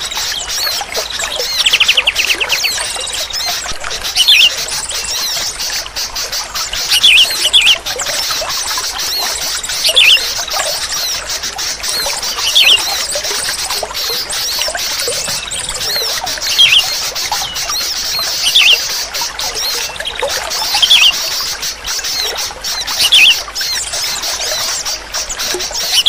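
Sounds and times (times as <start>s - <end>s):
bulbul bubbling call: 0.0s - 26.0s
many birds chirping: 0.0s - 26.0s.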